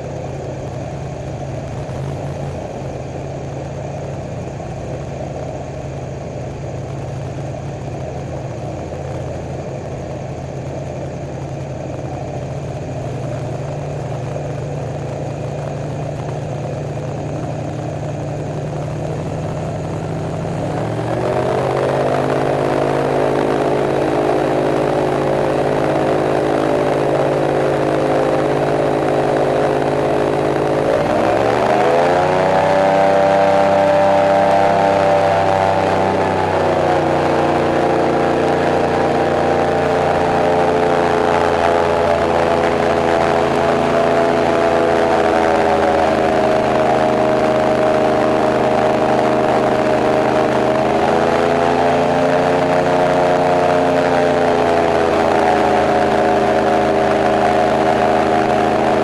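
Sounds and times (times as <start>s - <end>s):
airboat engine and propeller: 0.0s - 59.0s.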